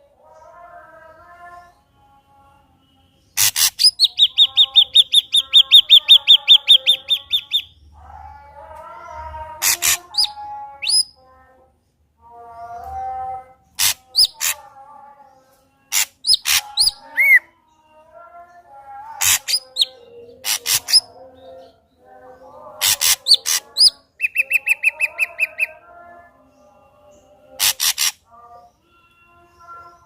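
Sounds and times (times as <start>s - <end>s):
bird singing varied song: 0.0s - 11.6s, 12.3s - 30.0s.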